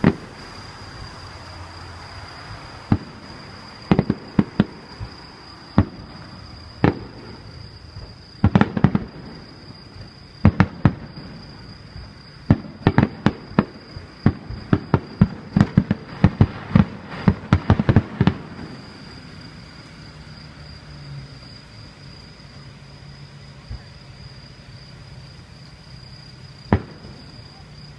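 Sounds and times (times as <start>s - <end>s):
fireworks bursting with sharp bangs: 0.0s - 27.9s.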